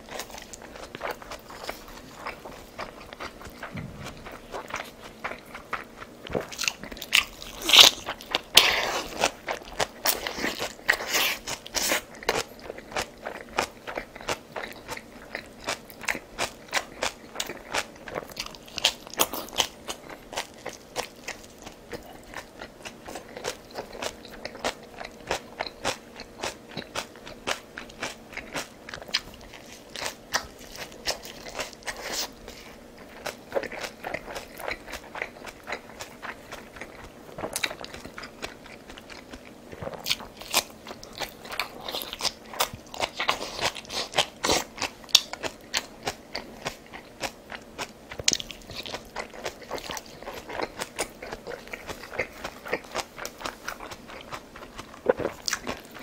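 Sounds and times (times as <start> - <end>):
person chewing with crisp crunches: 0.0 - 56.0.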